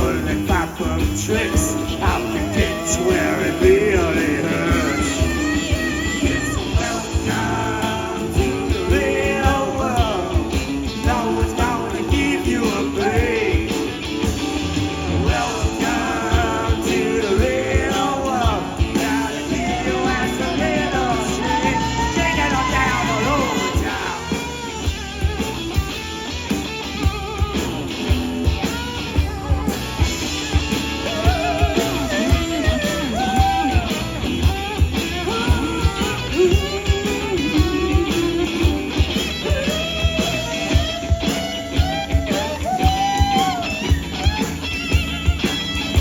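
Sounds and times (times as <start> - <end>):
bass: 0.0 - 46.0
lead guitar with bent notes: 0.0 - 46.0
steady drum beat: 0.0 - 46.0.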